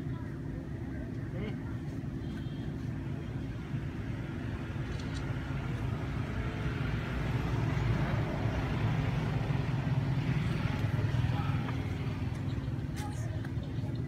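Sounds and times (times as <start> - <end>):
motor vehicle engine drone: 0.0 - 14.0.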